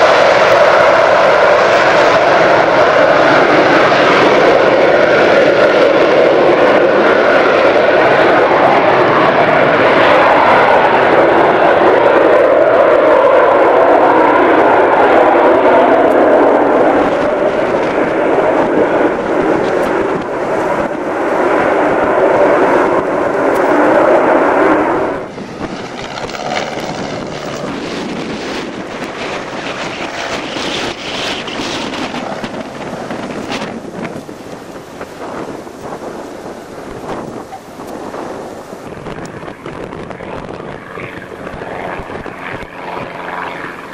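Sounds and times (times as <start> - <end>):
rushing noise: 0.0 - 42.6
aircraft engines running: 0.0 - 43.9.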